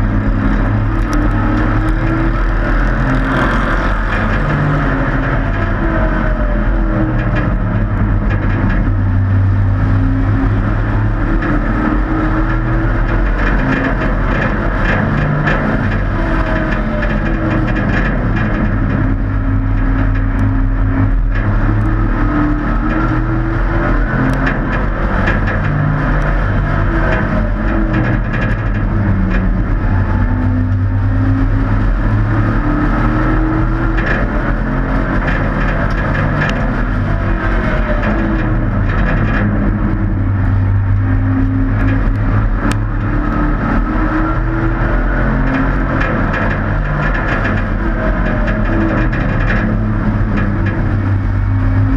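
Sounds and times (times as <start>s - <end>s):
race truck engines racing: 0.0s - 51.9s.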